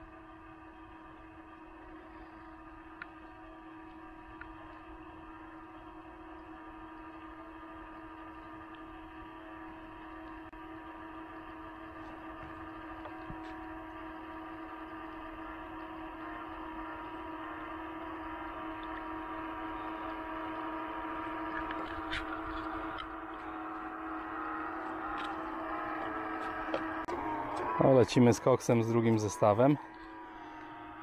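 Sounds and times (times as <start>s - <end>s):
electric motors humming: 0.0s - 31.0s.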